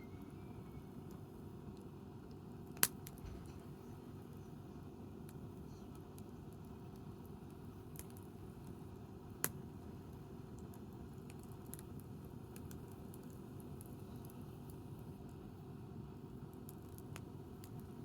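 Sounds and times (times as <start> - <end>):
steady low background noise: 0.0 - 18.0
campfire crackling: 0.9 - 4.3, 5.0 - 18.0.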